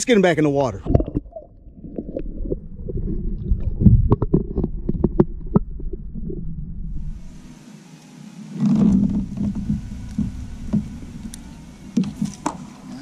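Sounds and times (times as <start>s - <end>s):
muffled bumping and rumbling: 0.7s - 7.5s, 8.6s - 12.8s.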